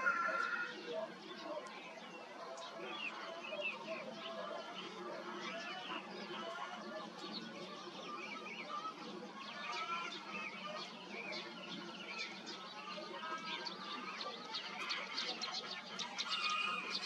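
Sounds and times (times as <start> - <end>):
many birds chirping: 0.0 - 17.0.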